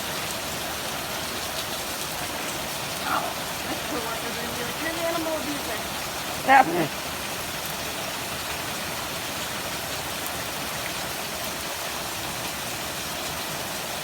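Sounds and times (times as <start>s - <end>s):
rain pouring: 0.0s - 14.0s.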